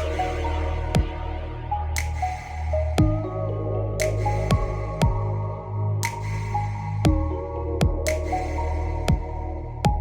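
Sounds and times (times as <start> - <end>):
held synth notes: 0.0 - 10.0
steady low bass: 0.0 - 10.0.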